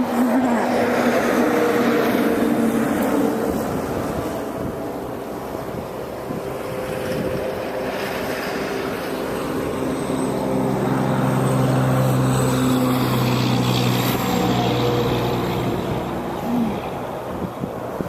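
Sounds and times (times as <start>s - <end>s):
low engine-like drone: 0.0s - 18.0s
wind and storm noise: 0.0s - 18.0s.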